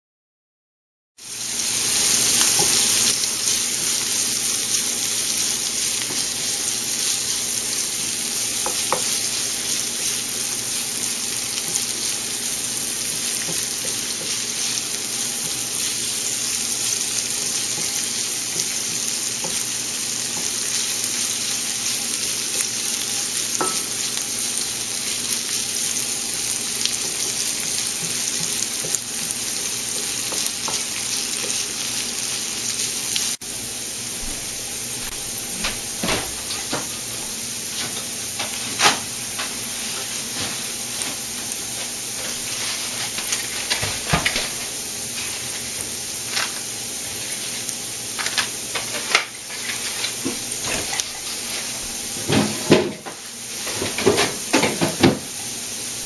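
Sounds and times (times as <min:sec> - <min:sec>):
vegetables sizzling in a frying pan: 0:01.2 - 0:56.0.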